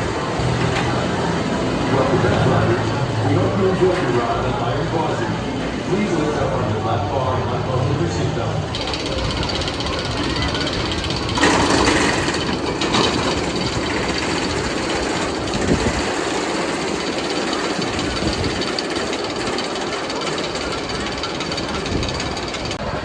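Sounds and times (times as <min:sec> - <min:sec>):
roller coaster clattering on track: 0:00.0 - 0:23.0.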